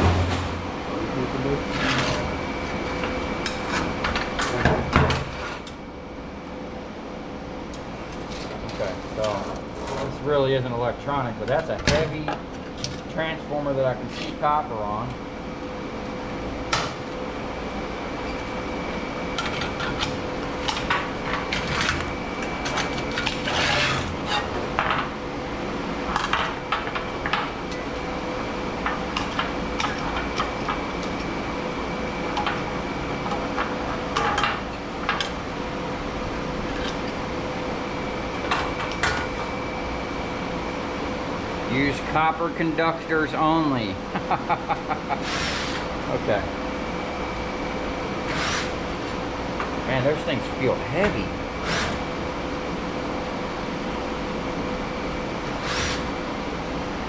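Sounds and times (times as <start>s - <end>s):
steady hum with faint whine: 0.0s - 57.0s.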